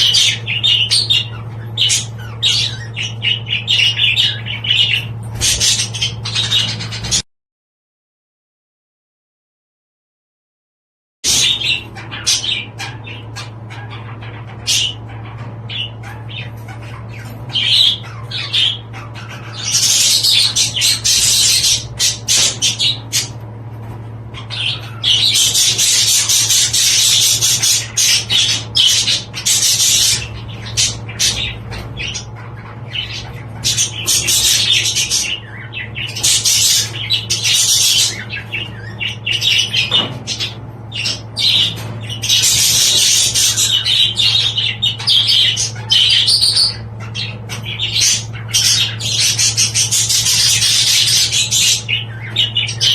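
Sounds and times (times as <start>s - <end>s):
budgerigars chattering and warbling: 0.0s - 7.2s, 11.2s - 52.9s
steady low hum: 0.0s - 7.2s, 11.3s - 52.9s.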